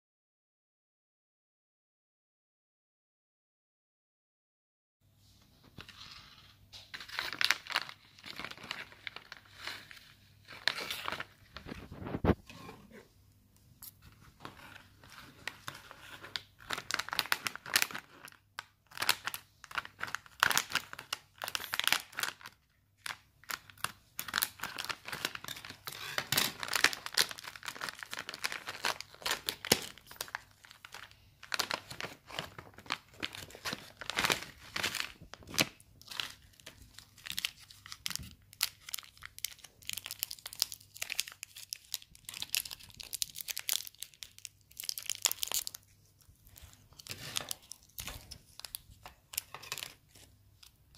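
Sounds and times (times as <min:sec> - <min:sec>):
plastic wrappers crackling and tearing: 0:06.9 - 0:12.4, 0:14.4 - 0:50.9.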